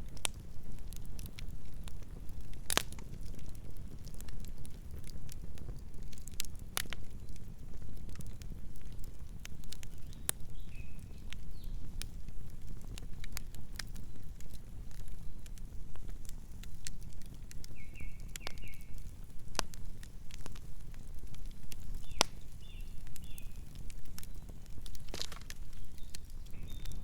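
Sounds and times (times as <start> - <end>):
campfire crackling and popping: 0.0 - 27.0
low rumble of flames: 0.0 - 27.0.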